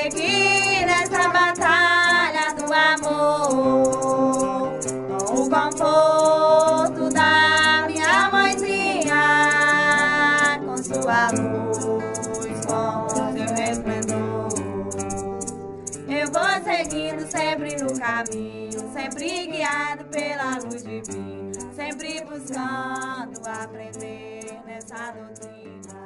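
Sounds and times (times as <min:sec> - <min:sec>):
voices singing long wavering notes: 0:00.0 - 0:26.0.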